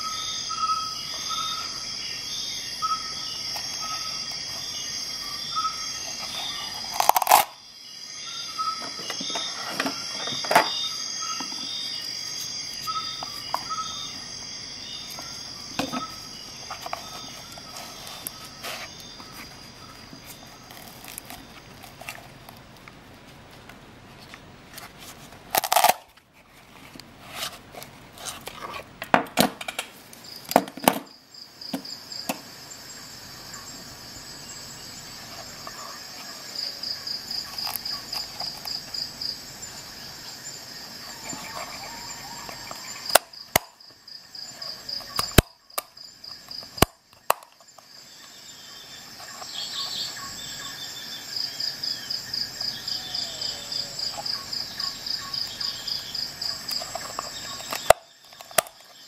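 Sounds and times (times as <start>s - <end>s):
insect chirping in high pulses: 0.0s - 21.9s, 30.2s - 59.0s.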